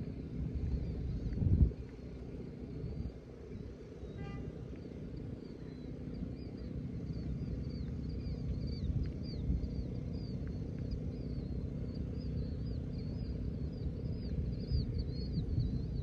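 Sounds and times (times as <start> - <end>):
small birds chirping: 0.0 - 16.0
wind buffeting microphone: 0.0 - 16.0.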